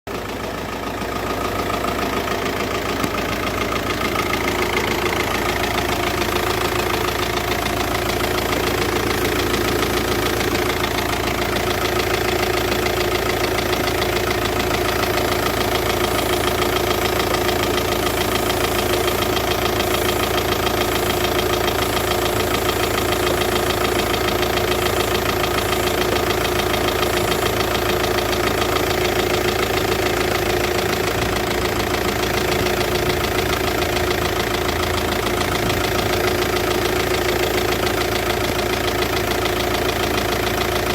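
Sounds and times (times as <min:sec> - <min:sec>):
diesel engine idling: 0:00.1 - 0:40.9.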